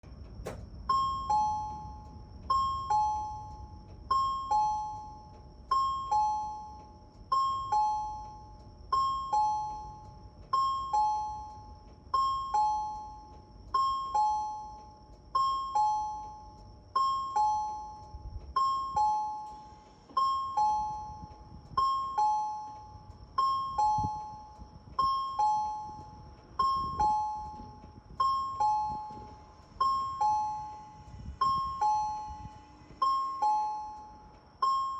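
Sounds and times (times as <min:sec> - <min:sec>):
bus low rumble: 0:00.0 - 0:34.9.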